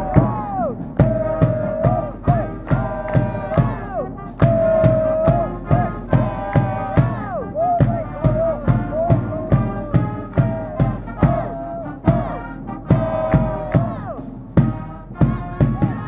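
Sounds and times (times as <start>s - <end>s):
brass band playing: 0.0s - 16.0s
steady drum beat: 0.0s - 16.0s.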